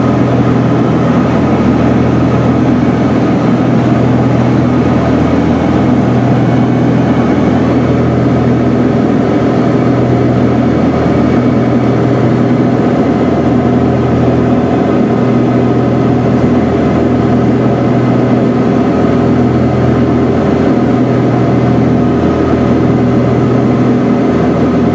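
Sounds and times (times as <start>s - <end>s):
aircraft piston engines droning: 0.0s - 24.9s.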